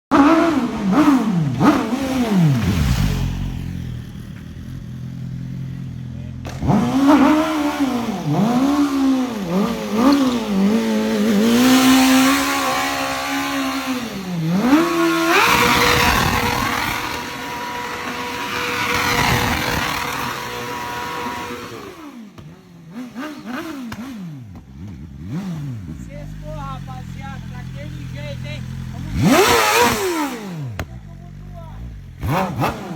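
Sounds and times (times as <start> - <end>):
motorcycle engine revving: 0.1 - 32.9.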